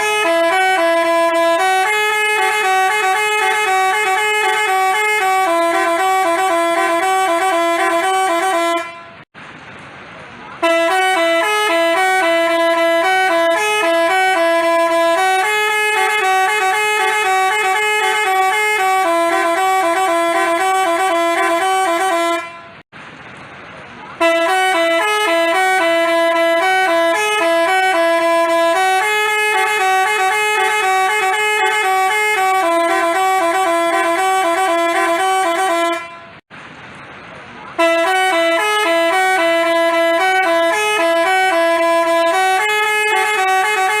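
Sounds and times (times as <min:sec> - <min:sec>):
bus horn playing a tune: 0:00.0 - 0:09.3, 0:10.6 - 0:22.9, 0:24.2 - 0:36.4, 0:37.7 - 0:44.0.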